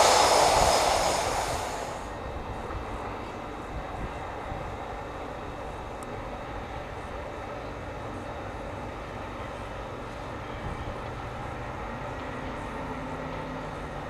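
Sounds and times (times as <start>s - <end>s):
train running with low hum: 0.0s - 14.0s.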